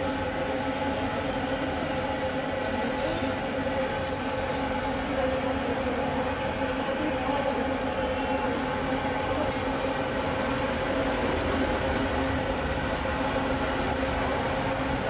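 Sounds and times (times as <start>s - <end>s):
droning hum with held tones: 0.0s - 15.0s.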